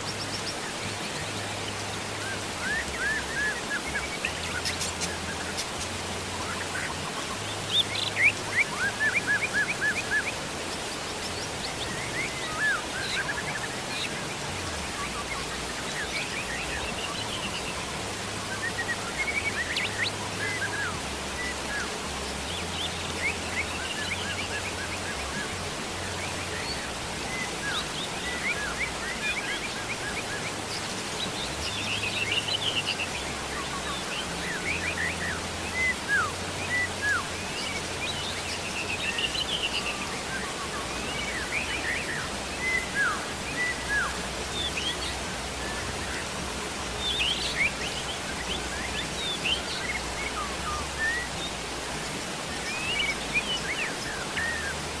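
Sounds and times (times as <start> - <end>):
birds chirping and twittering: 0.0 - 55.0
rain hiss: 0.0 - 55.0.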